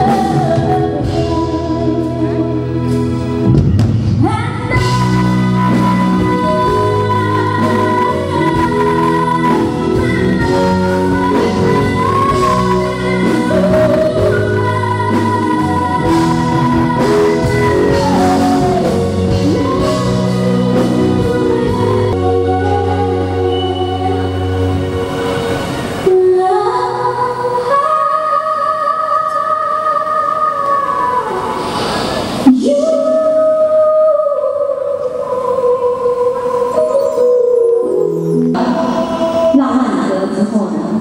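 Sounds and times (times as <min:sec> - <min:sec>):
woman singing: 0:00.0 - 0:03.4, 0:04.1 - 0:25.0, 0:26.0 - 0:31.6, 0:32.4 - 0:41.0
live band playing: 0:00.0 - 0:28.1, 0:30.8 - 0:33.6, 0:34.6 - 0:41.0.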